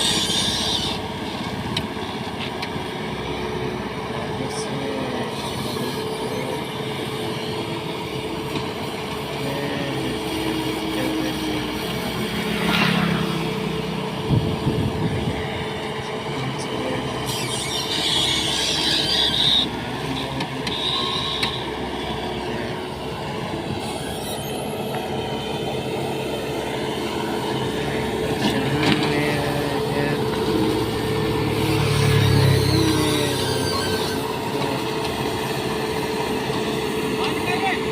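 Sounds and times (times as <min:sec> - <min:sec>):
diesel engine revving: 0:00.0 - 0:37.9.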